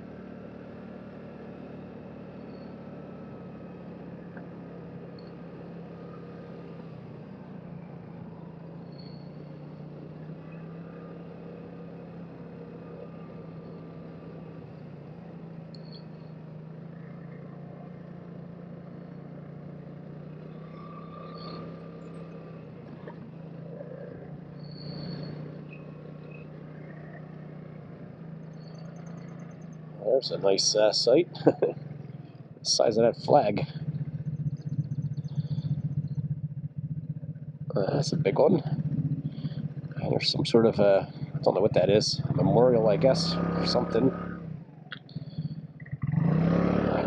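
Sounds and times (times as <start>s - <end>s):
scooter engine running: 0.0s - 47.0s.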